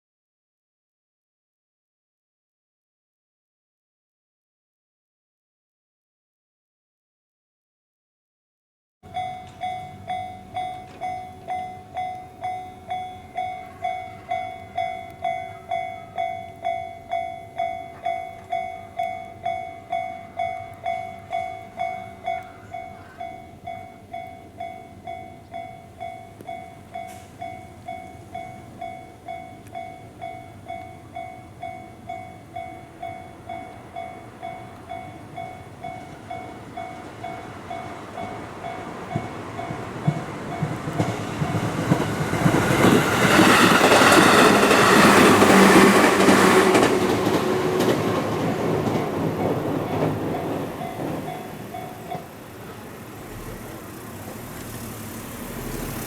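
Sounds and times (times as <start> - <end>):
level crossing warning bell: 9.0 - 56.0
approaching train rumble: 9.1 - 56.0.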